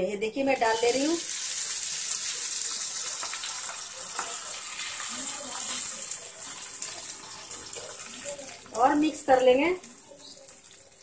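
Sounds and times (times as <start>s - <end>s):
hot oil sizzling: 0.3s - 11.0s.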